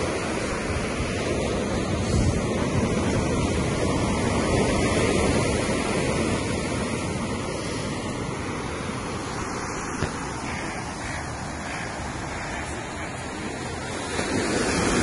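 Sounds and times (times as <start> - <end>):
surf washing on shore: 0.0 - 15.0
wind: 0.0 - 15.0.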